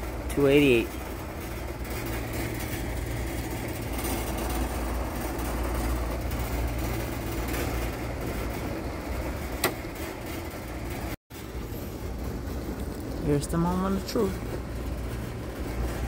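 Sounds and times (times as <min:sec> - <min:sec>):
low machinery hum and rumble: 0:00.0 - 0:16.0.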